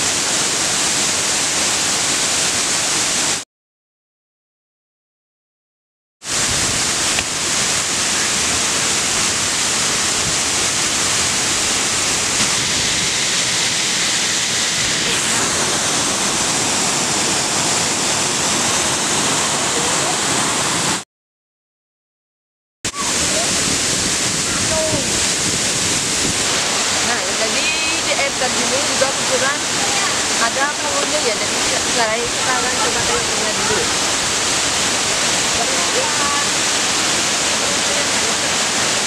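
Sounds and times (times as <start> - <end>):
waterfall rushing onto rocks: 0.0 - 3.4, 6.2 - 21.0, 22.9 - 39.0.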